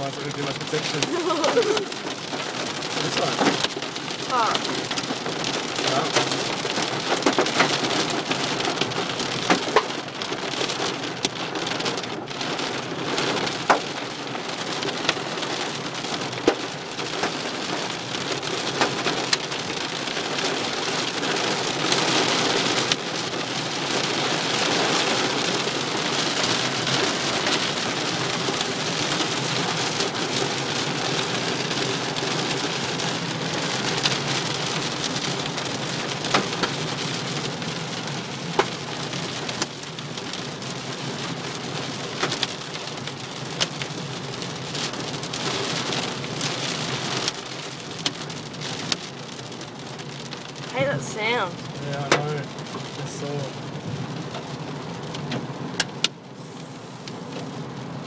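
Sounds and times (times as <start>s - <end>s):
hail and rain on car roof: 0.0s - 58.0s
hailstones cracking on car: 0.0s - 58.0s.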